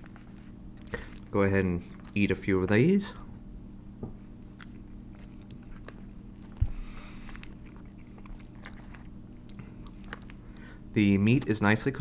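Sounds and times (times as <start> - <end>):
person chewing: 0.0 - 3.4, 4.2 - 11.5
steady low hum: 0.0 - 12.0.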